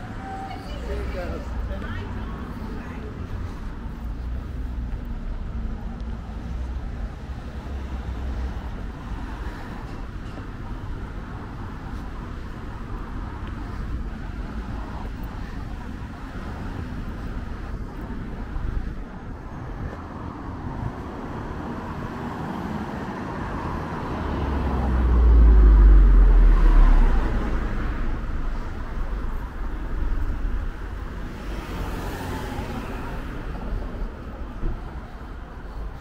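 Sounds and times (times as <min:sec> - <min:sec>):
car passing close rumble: 0:00.0 - 0:36.0
cars passing: 0:00.0 - 0:36.0.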